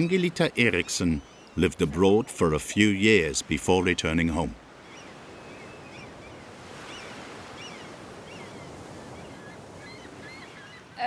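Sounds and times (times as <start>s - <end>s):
sea waves washing: 0.0s - 11.0s.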